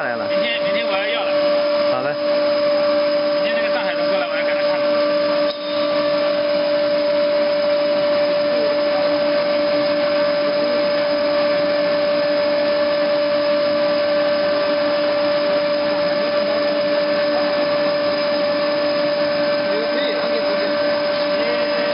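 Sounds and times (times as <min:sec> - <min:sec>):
pipe coiler machine humming: 0:00.0 - 0:21.9.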